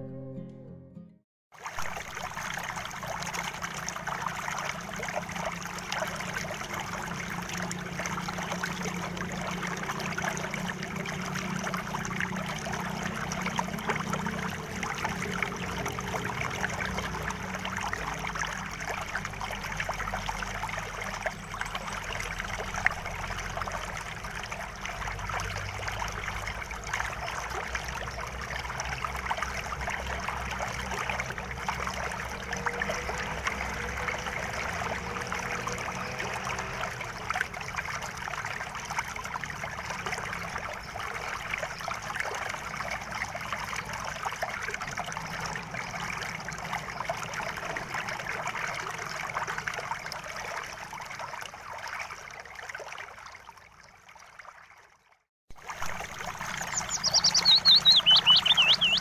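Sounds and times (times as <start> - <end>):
stream splashing over rocks: 1.5 - 59.0.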